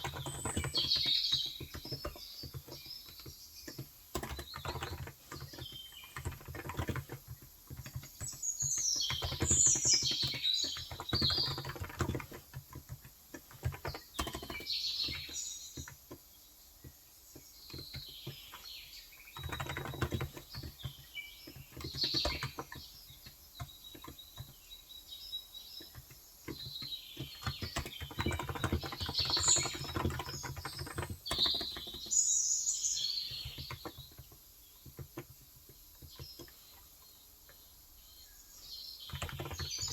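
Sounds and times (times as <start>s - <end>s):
typing on a keyboard: 0.0s - 37.7s, 39.0s - 39.9s
birds chirping: 0.0s - 39.9s.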